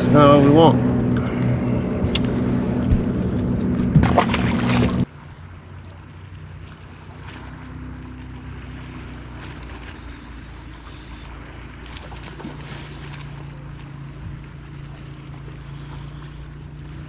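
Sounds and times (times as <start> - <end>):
boat motor humming: 0.0 - 17.0
faint wind: 0.0 - 17.0
water noise: 0.0 - 17.0.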